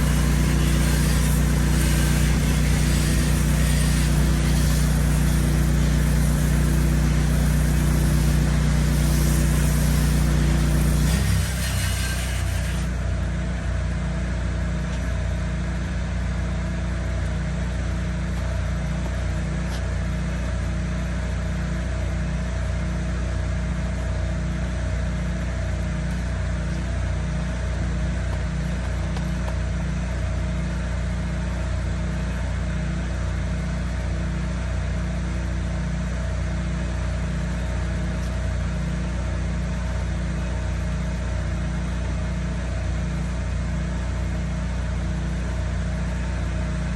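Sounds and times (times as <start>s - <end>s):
pressure washer engine throbbing: 0.0s - 46.9s.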